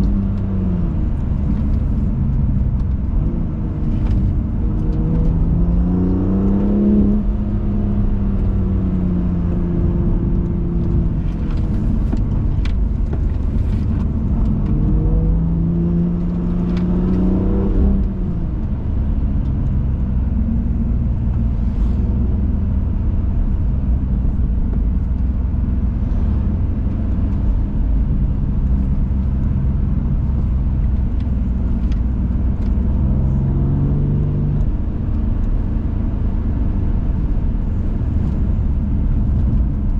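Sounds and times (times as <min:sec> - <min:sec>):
car engine revving: 0:00.0 - 0:39.9
road rumble: 0:00.0 - 0:39.9.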